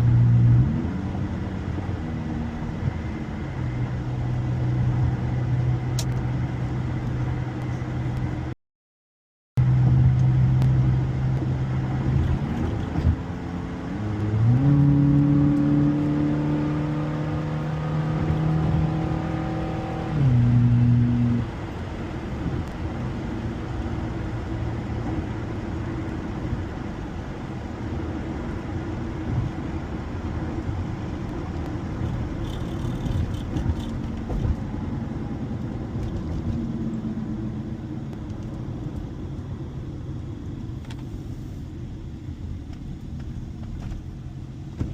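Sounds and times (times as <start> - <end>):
car engine accelerating: 0.0 - 8.5, 9.6 - 41.4
road and tyre rumble: 0.0 - 8.6, 9.6 - 44.9.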